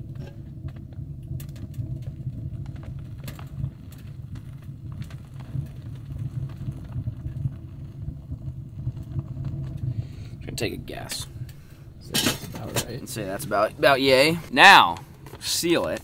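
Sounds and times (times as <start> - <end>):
low rumble: 0.0 - 15.3.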